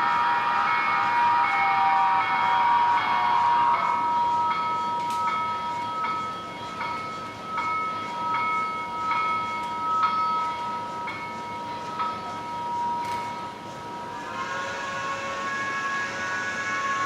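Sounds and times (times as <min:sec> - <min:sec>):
locomotive bell ringing: 0:00.0 - 0:17.0.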